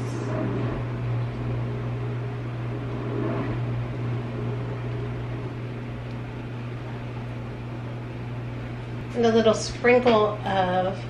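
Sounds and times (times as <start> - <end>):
household machine humming: 0.0 - 11.0.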